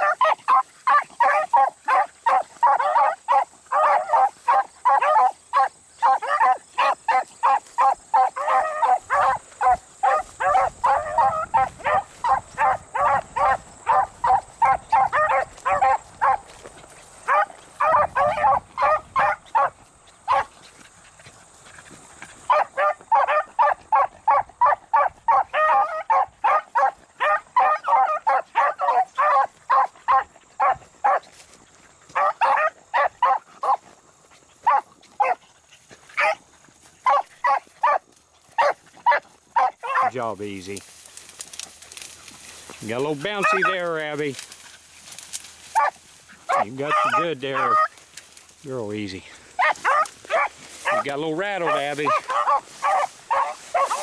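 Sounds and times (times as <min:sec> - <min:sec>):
dogs baying and barking: 0:00.0 - 0:54.0.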